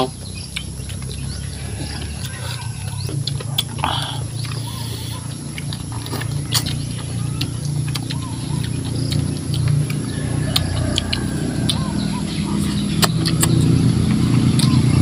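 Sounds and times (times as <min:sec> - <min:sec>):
low hum: 0:00.0 - 0:15.0
wet chewing and lip smacks: 0:00.2 - 0:15.0.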